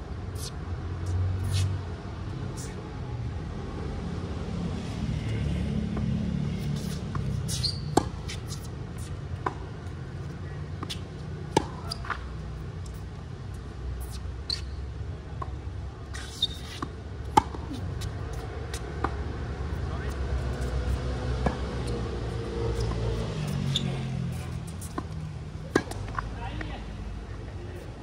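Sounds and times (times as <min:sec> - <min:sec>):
low rumble of city traffic: 0:00.0 - 0:28.0.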